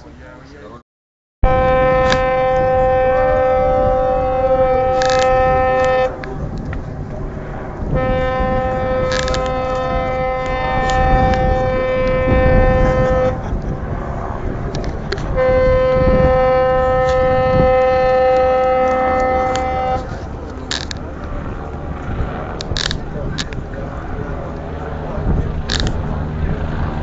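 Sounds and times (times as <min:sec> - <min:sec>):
harbour and crowd noise: 0:00.0 - 0:00.8, 0:01.4 - 0:27.0
ship's horn blasts: 0:01.4 - 0:27.0.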